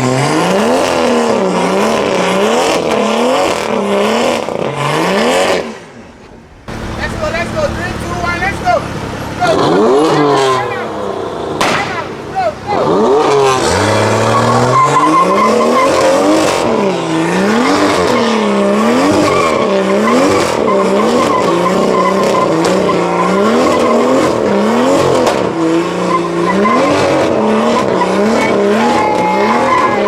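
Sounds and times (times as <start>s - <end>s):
car engine revving: 0.0s - 30.0s
tyres squealing: 1.3s - 10.8s, 12.3s - 30.0s.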